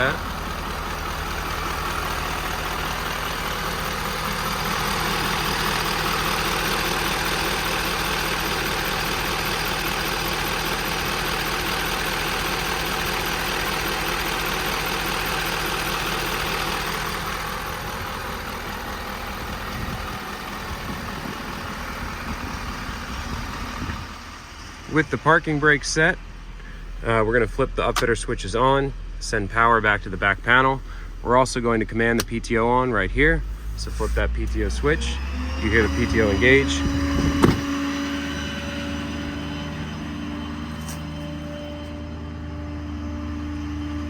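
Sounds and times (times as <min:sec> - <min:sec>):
diesel truck engine hum: 0:00.0 - 0:44.0
road noise inside cab: 0:00.0 - 0:44.0.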